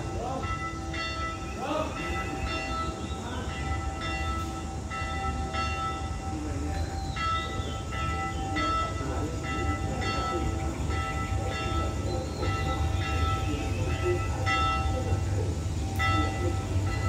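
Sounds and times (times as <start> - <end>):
church bell ringing: 0.0 - 17.0.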